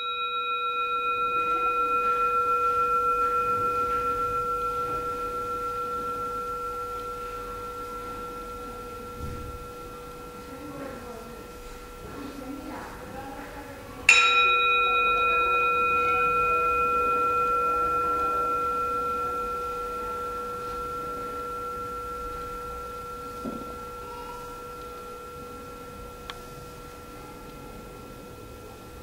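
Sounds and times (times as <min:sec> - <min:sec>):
metal singing bowl ringing: 0:00.0 - 0:29.0.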